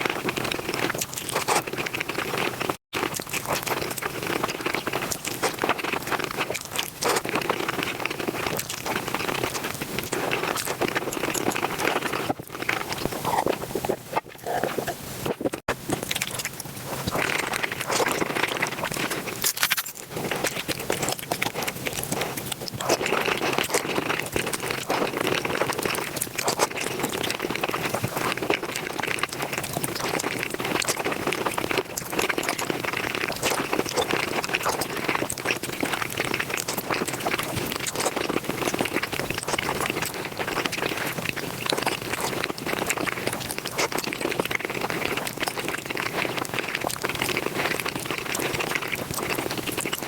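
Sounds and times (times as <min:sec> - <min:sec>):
sped-up chewing and mouth noises: 0:00.0 - 0:50.0.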